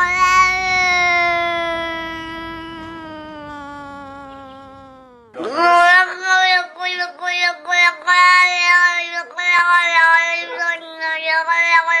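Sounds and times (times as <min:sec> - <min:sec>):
high-pitched voice singing: 0:00.0 - 0:12.0.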